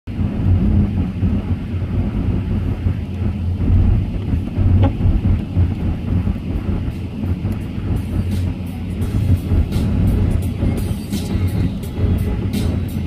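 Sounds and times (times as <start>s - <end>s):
tyres and engine rumble: 0.1s - 13.0s.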